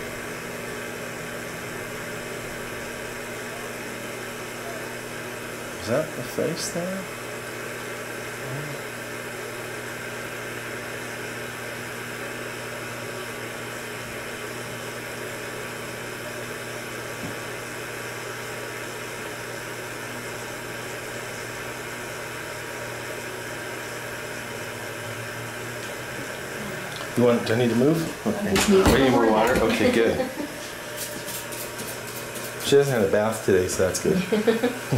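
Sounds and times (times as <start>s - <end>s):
fan whirring: 0.0s - 34.9s
low electrical hum: 0.0s - 34.9s.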